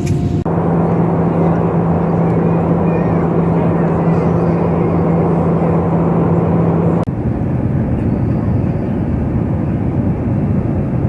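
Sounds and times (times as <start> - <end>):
airliner roar in flight: 0.0 - 11.0
steady hum: 0.0 - 11.0.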